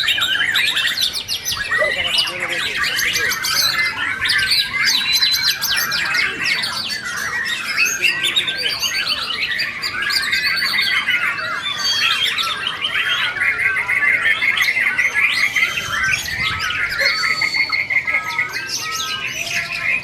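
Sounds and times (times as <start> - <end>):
caged songbirds singing: 0.0 - 20.0
fast repeated bird notes: 0.0 - 20.0.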